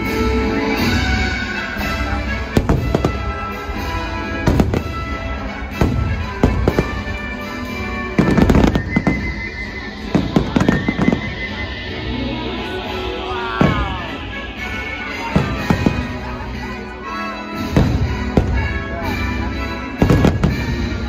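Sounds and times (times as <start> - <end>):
music: 0.0 - 21.0
fireworks bangs: 1.1 - 11.8, 13.1 - 16.7, 17.6 - 21.0.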